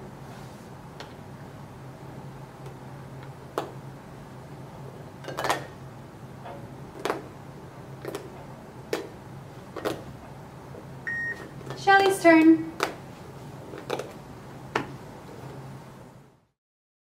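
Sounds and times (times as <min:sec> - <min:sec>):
low room hum: 0:00.0 - 0:16.6.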